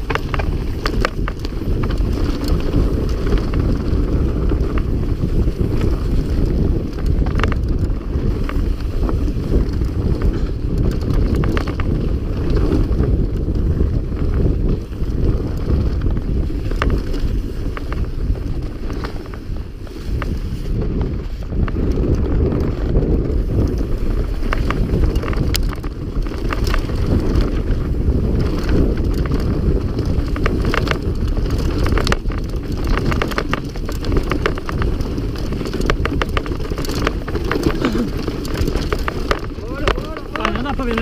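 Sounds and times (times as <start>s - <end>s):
bike clicks and rattles: 0.0s - 41.0s
wind buffeting microphone: 0.0s - 41.0s.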